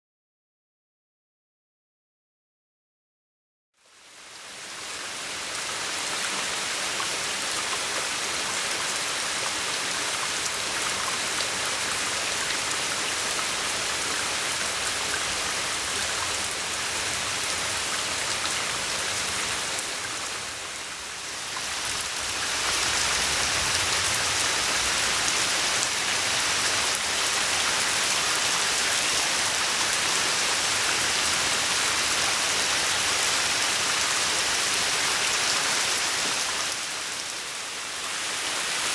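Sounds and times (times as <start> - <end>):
rain falling on pond: 3.8 - 38.9.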